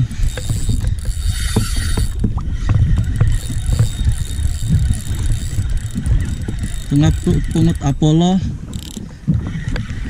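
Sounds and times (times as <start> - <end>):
gear knocking and clicking: 0.0 - 8.0, 8.7 - 9.1.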